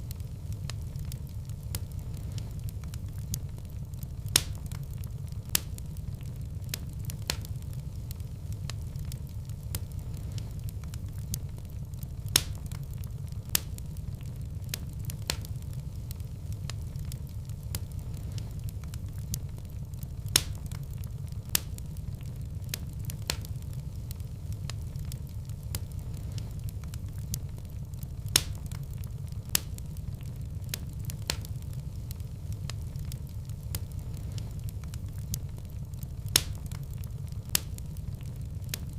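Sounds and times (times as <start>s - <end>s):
fire crackling: 0.0s - 38.9s
fire flames rumbling: 0.0s - 38.9s
sharp fire pops: 0.0s - 38.9s.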